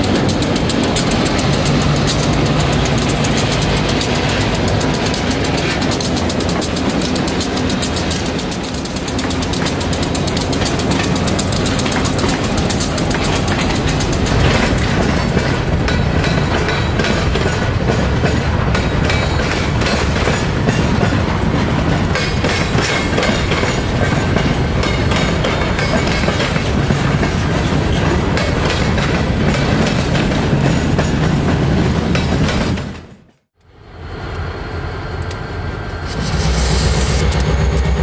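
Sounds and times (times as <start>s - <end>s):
train wheels clicking over joints: 0.0s - 33.2s, 36.0s - 38.0s
freight train rumble: 0.0s - 38.0s.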